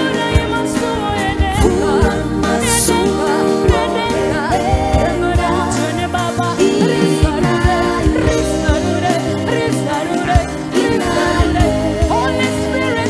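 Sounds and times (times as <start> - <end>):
acoustic guitars: 0.0 - 13.0
keyboard: 0.0 - 13.0
woman singing: 0.0 - 13.0.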